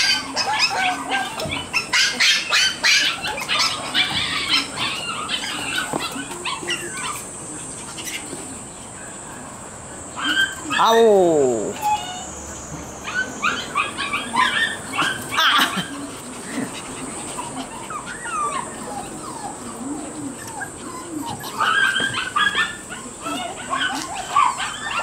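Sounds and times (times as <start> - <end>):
puppies yipping and whining: 0.0 - 25.0.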